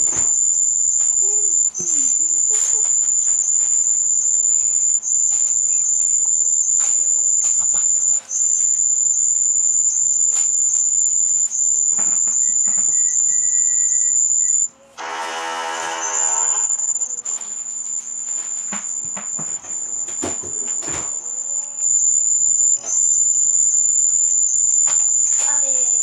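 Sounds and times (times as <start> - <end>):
buzzy electronic sound: 0.0 - 26.0
high-pitched electronic tone: 0.0 - 26.0.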